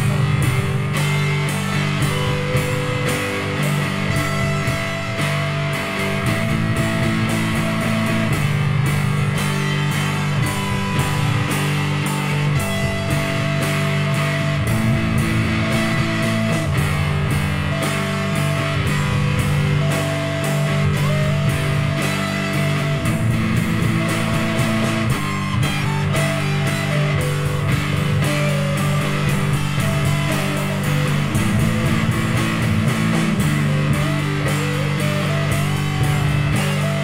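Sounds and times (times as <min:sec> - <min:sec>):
electric guitar lead with slides: 0:00.0 - 0:37.0
psychedelic rock jam: 0:00.0 - 0:37.0
steady drums: 0:00.0 - 0:37.0.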